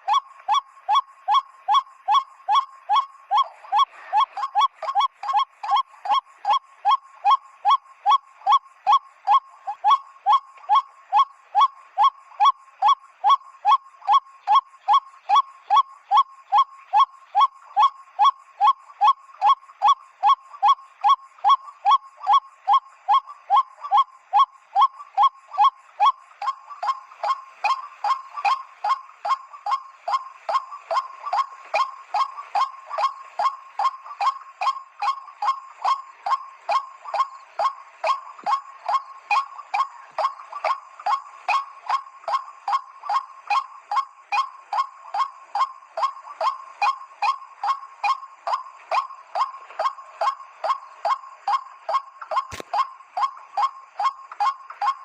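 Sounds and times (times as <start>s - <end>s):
waterhen calling nasal notes: 0.0s - 55.0s.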